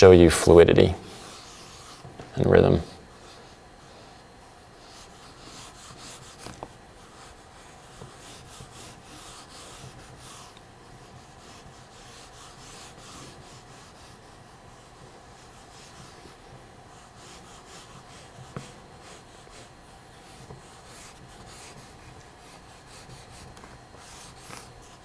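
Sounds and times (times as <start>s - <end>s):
drawing stick scraping on paper: 1.2s - 2.1s, 4.8s - 25.0s.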